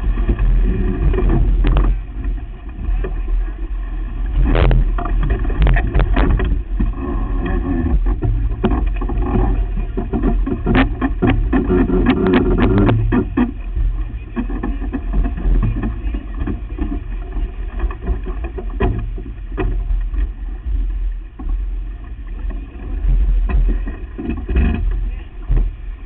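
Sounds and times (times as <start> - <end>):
low rumble of wind and water: 0.0 - 26.0.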